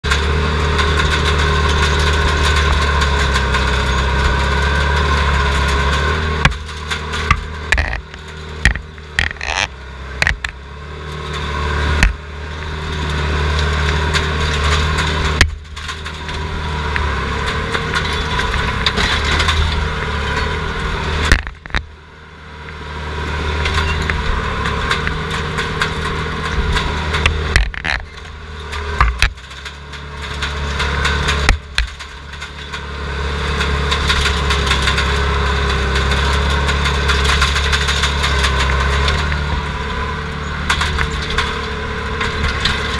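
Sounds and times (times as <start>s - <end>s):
sharp knocks and clanks: 0.0s - 10.6s, 11.2s - 21.9s, 23.6s - 42.9s
diesel engine running hard: 0.0s - 42.9s.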